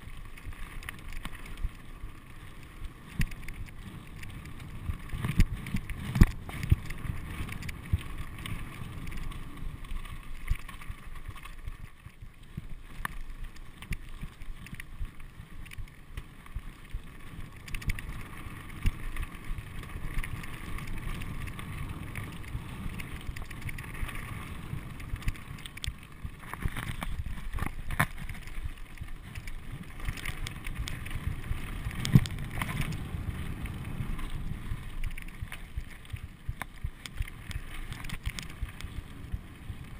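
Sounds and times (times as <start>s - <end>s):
bike knocking and rattling: 0.0s - 39.9s
bike tyres on rocky trail: 0.0s - 39.9s.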